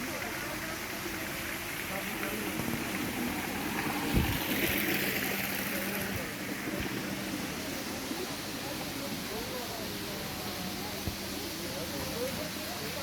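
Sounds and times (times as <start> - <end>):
waterfall splashing: 0.0 - 13.0.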